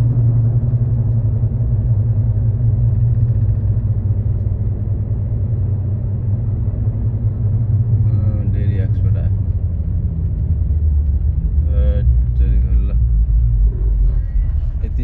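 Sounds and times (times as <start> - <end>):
car interior road and engine noise: 0.0 - 15.0.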